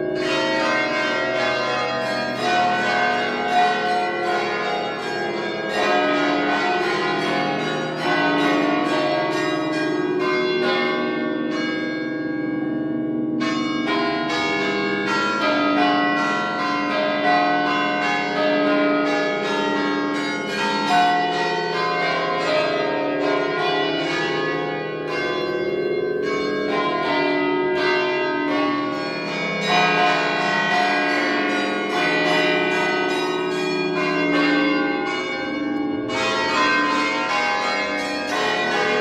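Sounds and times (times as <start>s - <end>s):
church bells ringing: 0.0s - 39.0s.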